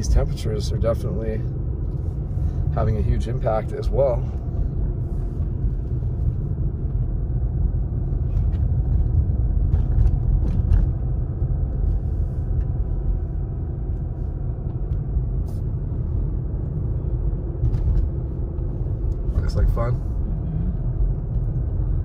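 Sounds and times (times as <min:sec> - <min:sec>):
car engine rumble: 0:00.0 - 0:22.0
tyres on paved road: 0:00.0 - 0:22.0.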